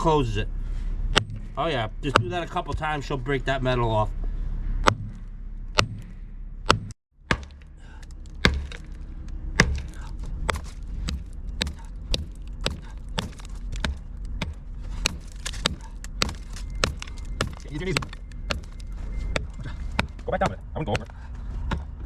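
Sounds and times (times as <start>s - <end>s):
engine running: 0.0s - 22.0s
sharp knocks: 1.2s - 3.1s, 4.8s - 22.0s.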